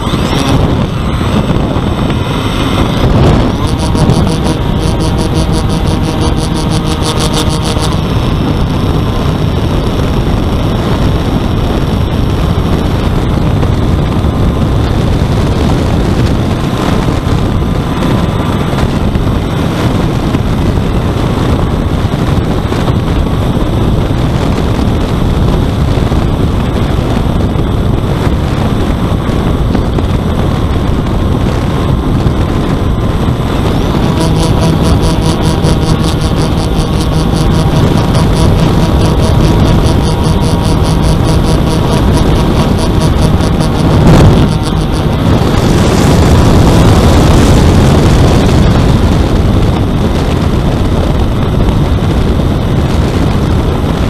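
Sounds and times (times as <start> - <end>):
steady tonal whine: 0.0 - 53.9
electric motors and propellers droning: 0.0 - 54.0
wind rushing over microphone: 0.0 - 54.0.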